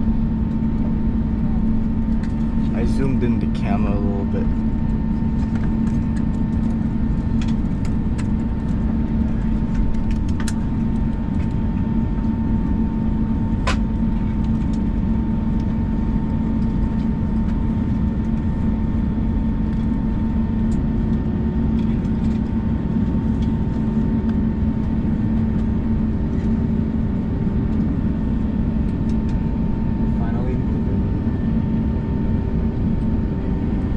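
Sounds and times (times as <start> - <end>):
jet engine cabin drone: 0.0 - 33.9.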